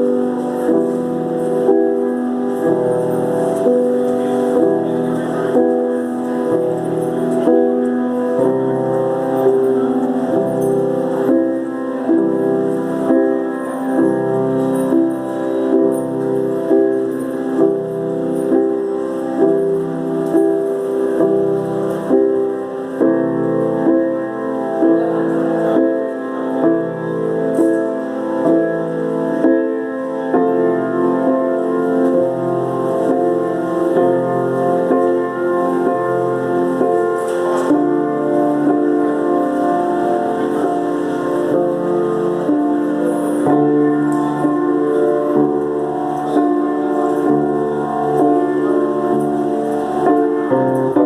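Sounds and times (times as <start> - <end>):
piano playing chords: 0.0 - 51.0.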